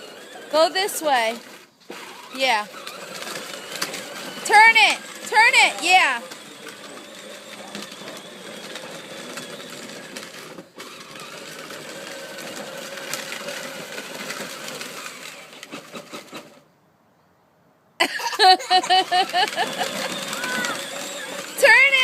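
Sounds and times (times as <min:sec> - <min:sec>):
toy tractor motor whirring: 0:00.0 - 0:16.7, 0:18.3 - 0:22.0.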